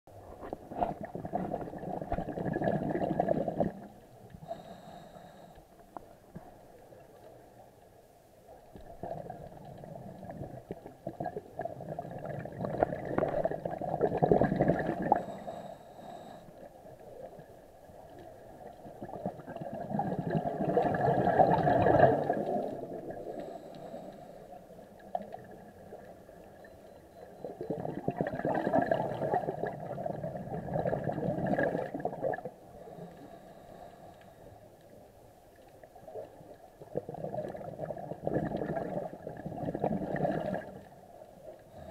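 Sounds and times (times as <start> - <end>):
scuba exhaust bubbles gurgling: 0.4 - 5.4, 8.8 - 33.9, 35.8 - 41.9.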